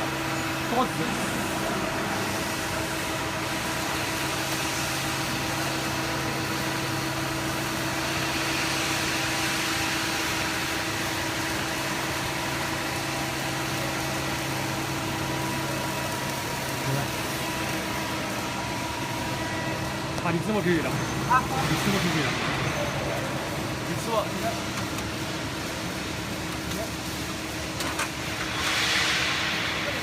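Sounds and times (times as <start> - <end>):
hydraulic unit humming: 0.0 - 28.6.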